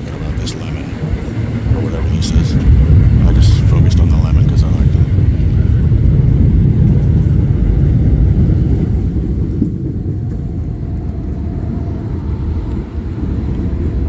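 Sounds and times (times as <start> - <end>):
train rumbling on elevated tracks: 0.0 - 14.0.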